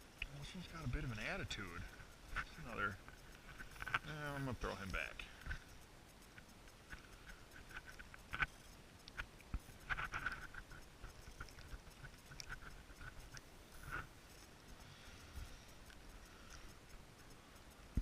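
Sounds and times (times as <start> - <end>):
faint clicks and taps: 0.1 - 18.0.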